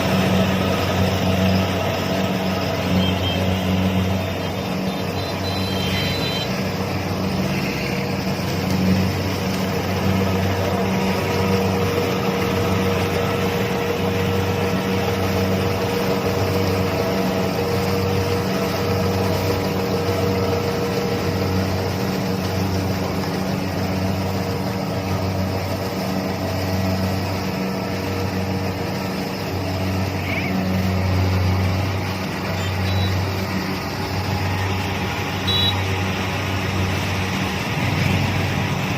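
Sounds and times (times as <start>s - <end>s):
diesel engine low hum: 0.0s - 38.9s
machinery rattling: 0.0s - 38.9s.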